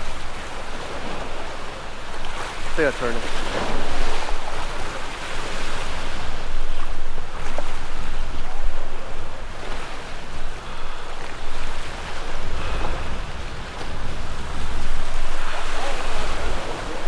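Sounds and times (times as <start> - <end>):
surf washing against rocks: 0.0 - 17.0
wind buffeting microphone: 0.0 - 17.0.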